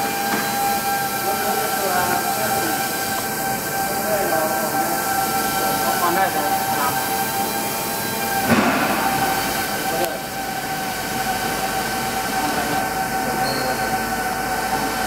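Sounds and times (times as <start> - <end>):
machine shop equipment humming: 0.0 - 15.0
whining tones: 0.0 - 15.0.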